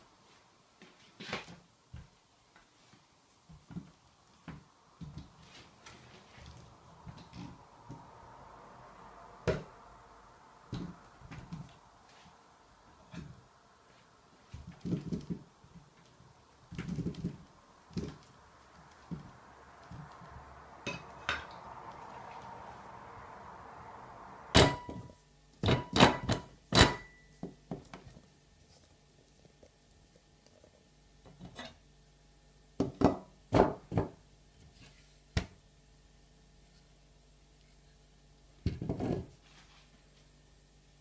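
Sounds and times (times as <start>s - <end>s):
faint rustling hiss: 0.0s - 41.0s.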